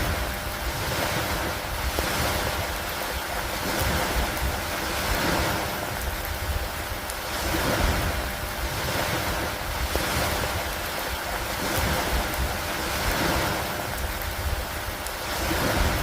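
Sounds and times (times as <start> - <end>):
steady rain falling: 0.0 - 16.0
wind: 0.0 - 16.0.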